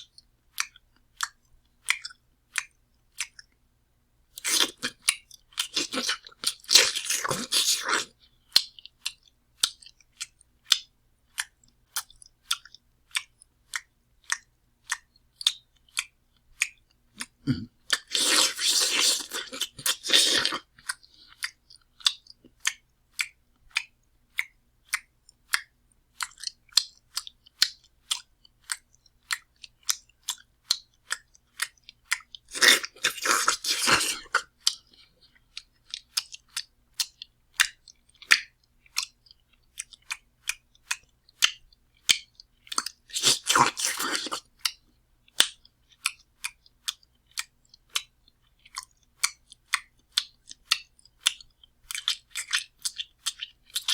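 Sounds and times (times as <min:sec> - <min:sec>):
loud open-mouth chewing: 0:04.4 - 0:53.9.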